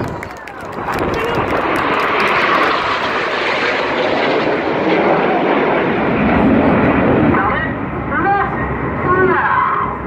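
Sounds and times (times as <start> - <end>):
jets roaring past: 0.0 - 10.0.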